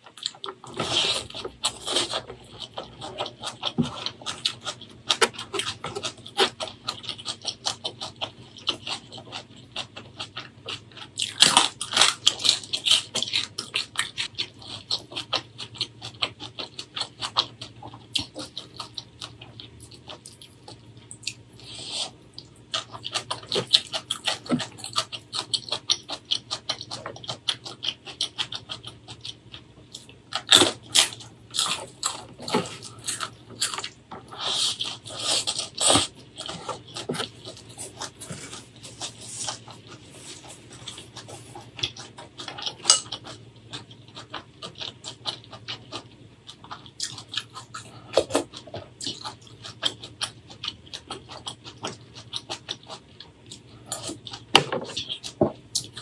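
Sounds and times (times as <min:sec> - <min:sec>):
close chewing and crunching: 0:00.0 - 0:56.0.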